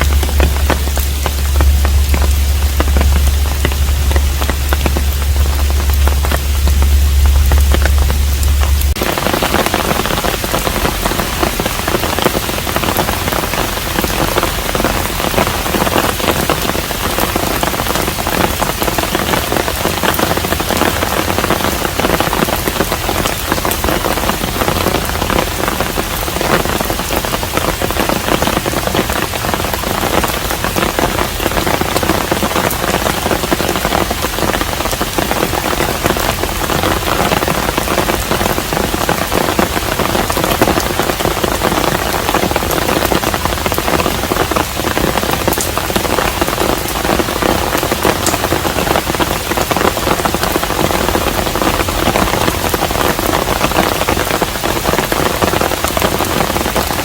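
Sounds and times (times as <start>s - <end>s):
rain falling: 0.0s - 57.0s
steady low rumble: 0.0s - 57.0s.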